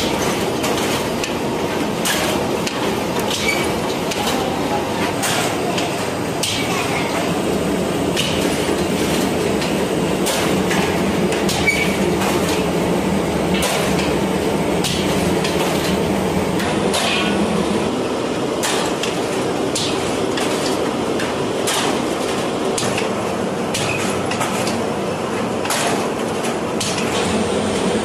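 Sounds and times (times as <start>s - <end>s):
machinery clanks and rattles: 0.0s - 28.0s
machinery humming: 0.0s - 28.0s.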